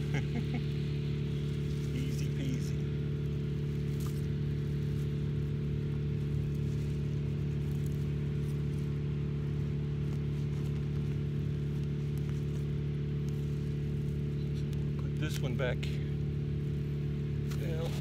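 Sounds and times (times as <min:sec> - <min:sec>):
low mechanical hum: 0:00.0 - 0:18.0
soil rustling by hand: 0:00.0 - 0:18.0.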